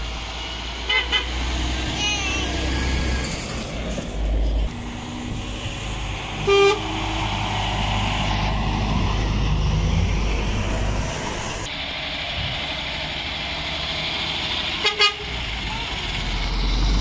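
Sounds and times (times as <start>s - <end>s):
lorries driving past: 0.0s - 17.0s.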